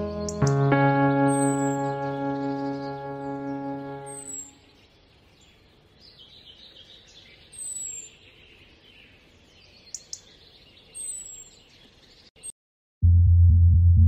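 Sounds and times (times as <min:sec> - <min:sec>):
distant bird calls: 0:00.0 - 0:12.3
small birds chirping: 0:00.0 - 0:12.6.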